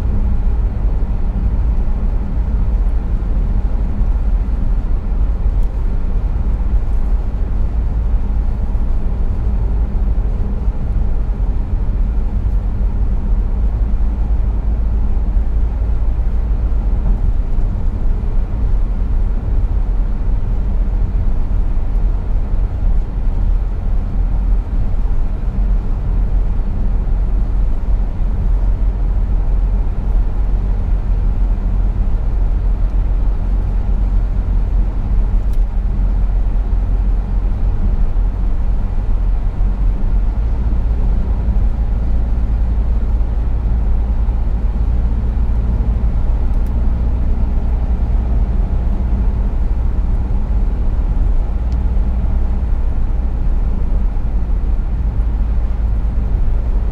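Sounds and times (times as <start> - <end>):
car engine and tyre rumble: 0.0 - 56.9.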